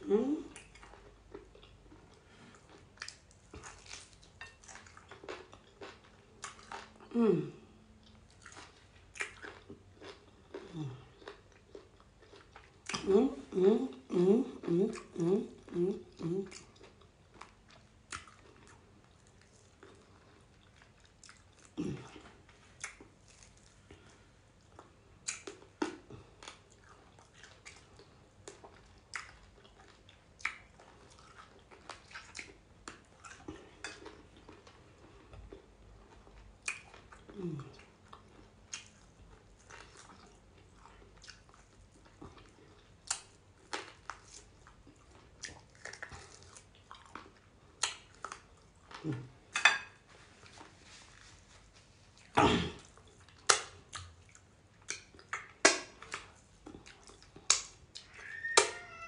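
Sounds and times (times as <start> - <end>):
person chewing meat: 0.5 - 58.8.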